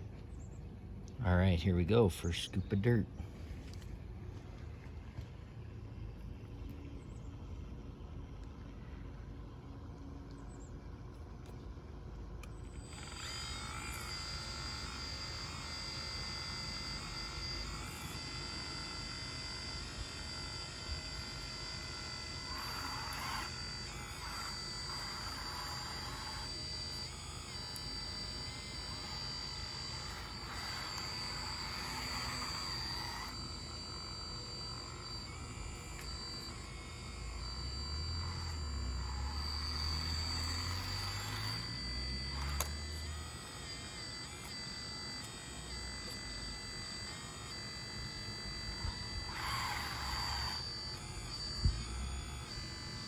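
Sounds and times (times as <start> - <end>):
small electric motors whining: 0.0 - 53.0.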